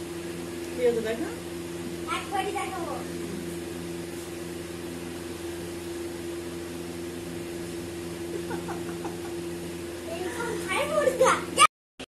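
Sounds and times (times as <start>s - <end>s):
fan motor humming: 0.0s - 11.7s.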